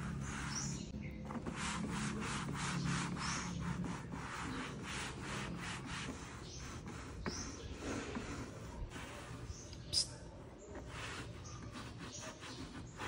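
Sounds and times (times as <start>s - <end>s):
cloth rubbing on plastic: 0.0s - 13.0s.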